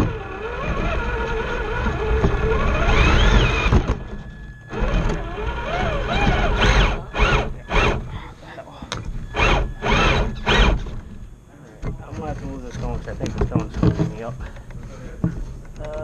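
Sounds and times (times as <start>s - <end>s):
electric motor whining: 0.0s - 14.9s.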